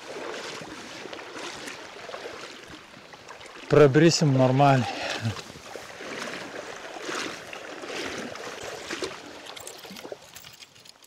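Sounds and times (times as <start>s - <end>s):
water sloshing around legs: 0.0s - 11.0s
water splashes: 0.0s - 11.0s.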